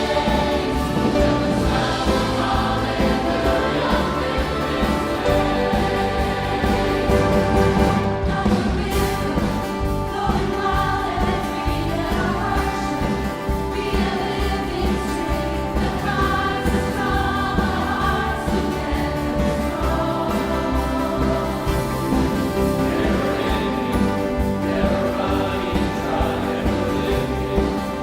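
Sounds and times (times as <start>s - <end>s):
choir singing in harmony: 0.0s - 28.0s
orchestral accompaniment: 0.0s - 28.0s.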